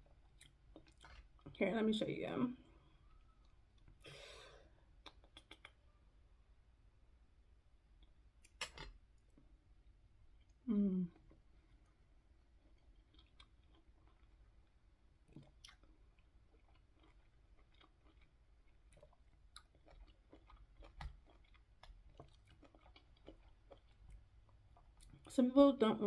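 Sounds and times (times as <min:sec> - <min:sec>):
faint chewing of fruit: 0:00.0 - 0:01.6, 0:02.6 - 0:06.0, 0:07.9 - 0:25.4.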